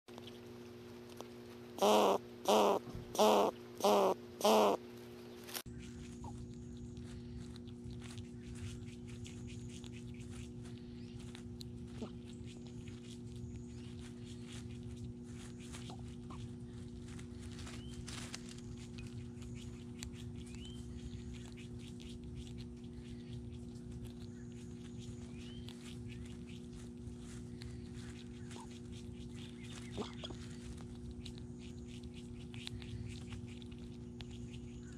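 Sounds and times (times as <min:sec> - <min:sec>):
small ticks and rustles: 0:00.1 - 0:03.9, 0:04.7 - 0:34.9
low hum with constant tones: 0:00.1 - 0:34.9.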